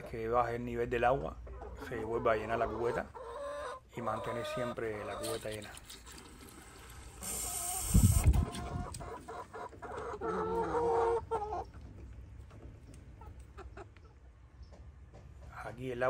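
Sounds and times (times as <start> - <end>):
chickens clucking: 0.0 - 5.8, 6.6 - 15.9.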